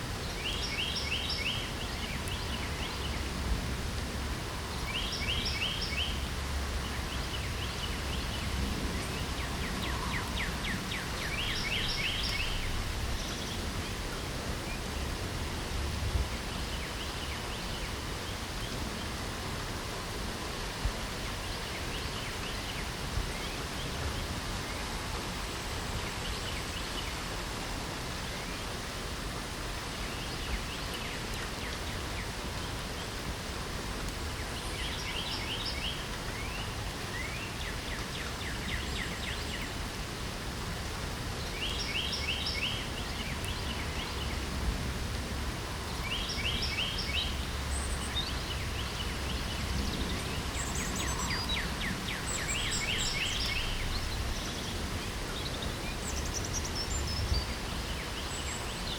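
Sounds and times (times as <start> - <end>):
songbird singing: 0.0 - 3.6, 4.2 - 27.3, 29.6 - 58.9
light rain falling: 0.0 - 58.9.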